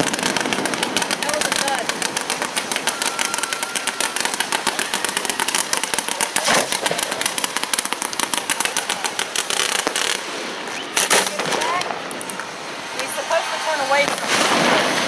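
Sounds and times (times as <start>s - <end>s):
fireworks cracking and popping: 0.0s - 15.0s
loud firework launch: 0.0s - 15.0s.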